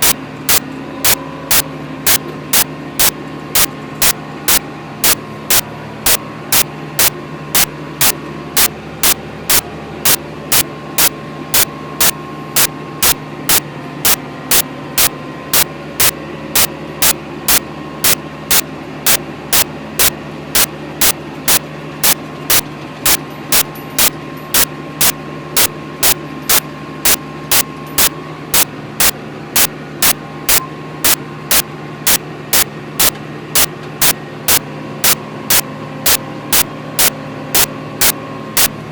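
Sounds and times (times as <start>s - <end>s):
sharp regular ticking: 0.0s - 38.7s
tractor diesel engine running: 0.0s - 38.9s.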